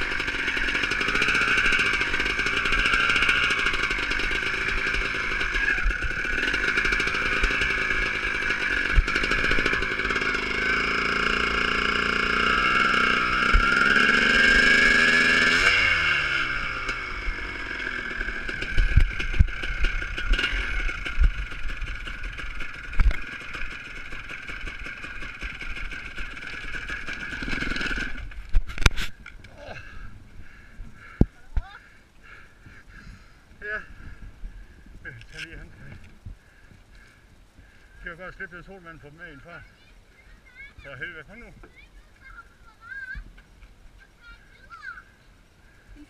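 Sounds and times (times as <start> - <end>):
motorcycle engines running: 0.0 - 46.0.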